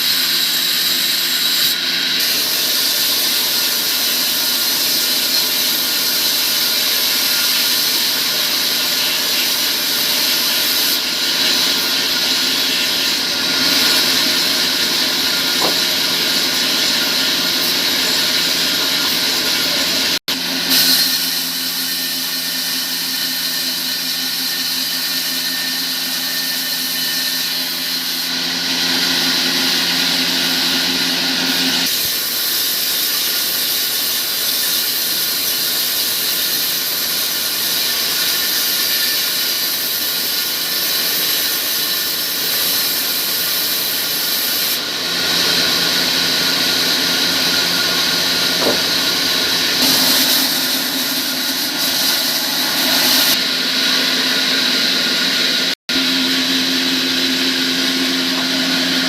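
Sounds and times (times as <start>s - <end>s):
power tool squealing whine: 0.0s - 59.0s.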